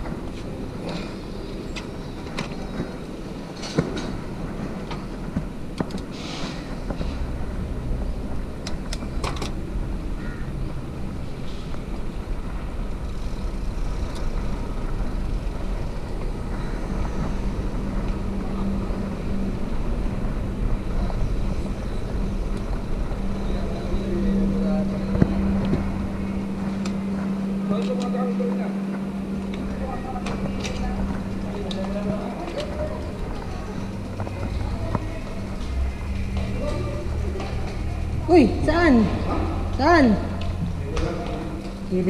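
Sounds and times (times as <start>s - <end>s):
bicycle rolling over brick paving: 0.0s - 28.2s, 28.9s - 38.3s.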